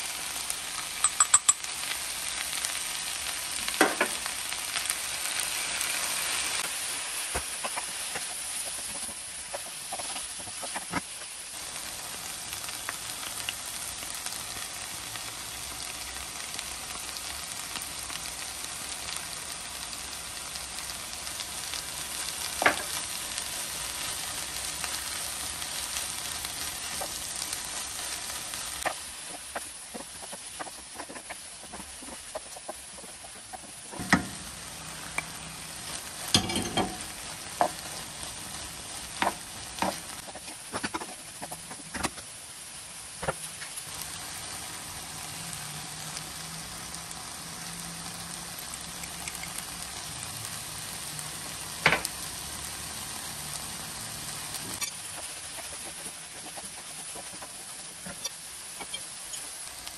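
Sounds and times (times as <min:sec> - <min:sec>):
food sizzling in a hot pan: 0:00.0 - 0:59.9.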